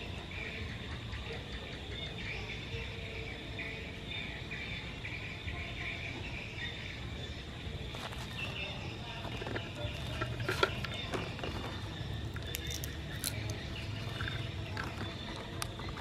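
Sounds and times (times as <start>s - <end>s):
birds chirping: 0.0s - 16.0s
insects chirping: 0.0s - 16.0s.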